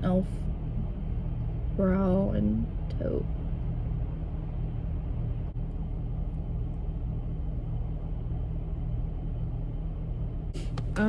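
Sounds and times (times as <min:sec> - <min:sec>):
low rumble inside car cabin: 0:00.0 - 0:11.0.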